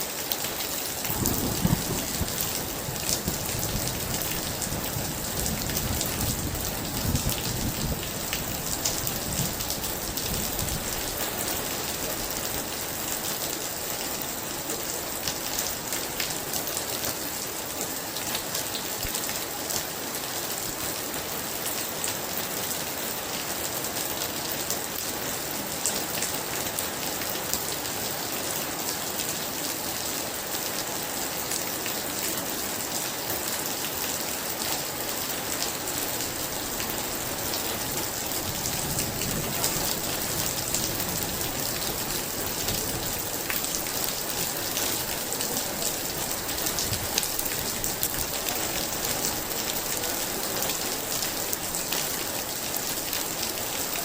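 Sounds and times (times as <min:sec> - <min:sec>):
very heavy rain: 0:00.0 - 0:54.0.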